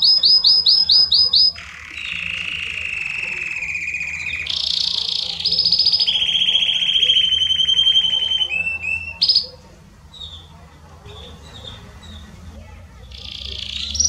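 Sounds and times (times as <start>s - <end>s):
canary singing trills: 0.0s - 14.0s.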